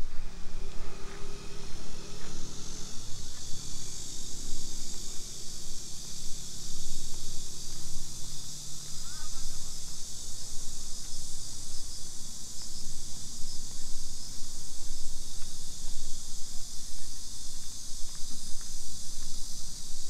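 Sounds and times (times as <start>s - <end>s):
low uneven rumble: 0.0s - 19.6s
insects buzzing: 0.0s - 20.0s.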